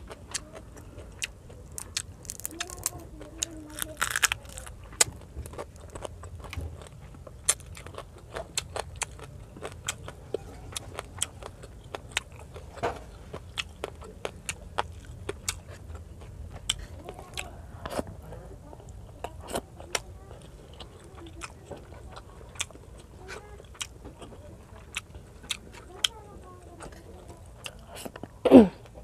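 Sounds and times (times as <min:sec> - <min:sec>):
low steady hum: 0:00.0 - 0:29.0
person chewing food: 0:00.0 - 0:29.0.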